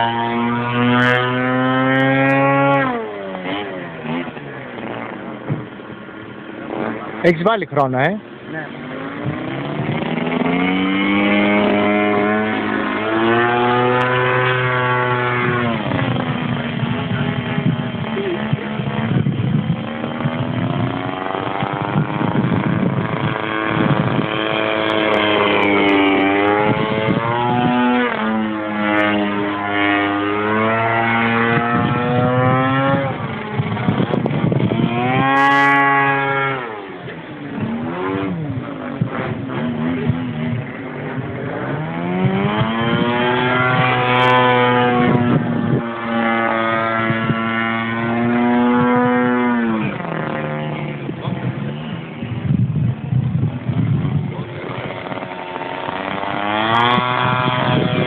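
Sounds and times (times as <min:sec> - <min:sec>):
model plane engine in flight: 0:00.0 - 0:58.0.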